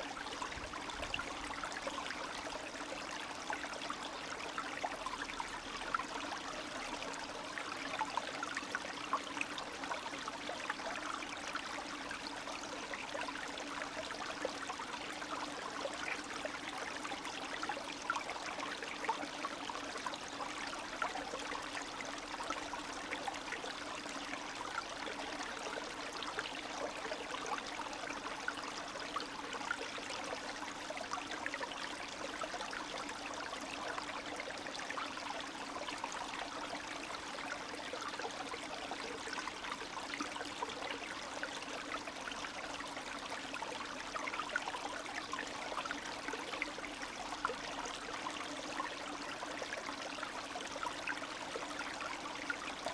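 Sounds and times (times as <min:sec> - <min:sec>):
stream trickling over stones: 0:00.0 - 0:52.9.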